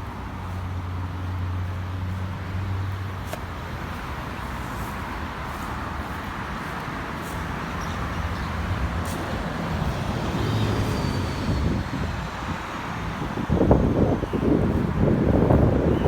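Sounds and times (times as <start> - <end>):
heavy vehicle engine rumble: 0.0 - 15.9
street traffic going by: 0.0 - 16.0
wind buffeting microphone: 0.4 - 16.0.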